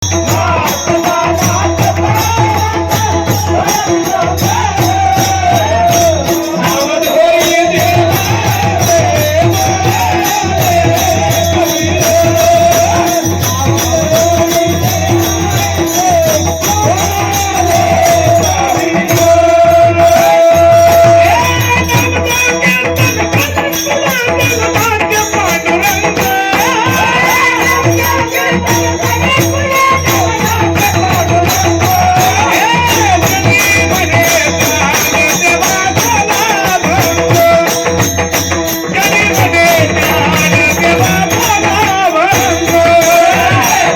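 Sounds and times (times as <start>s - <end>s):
hand cymbals jingling: 0.0s - 43.9s
man singing devotional melody: 0.0s - 43.9s.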